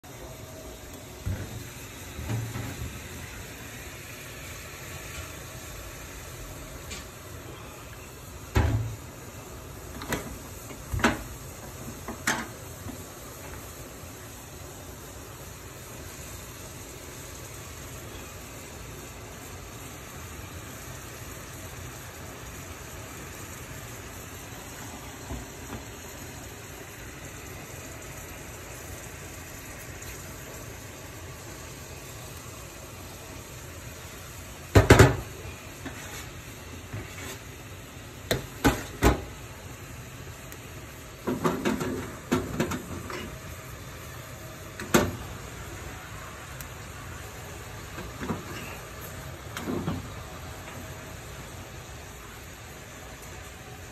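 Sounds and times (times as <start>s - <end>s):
food simmering in frying pan: 0.0s - 53.9s.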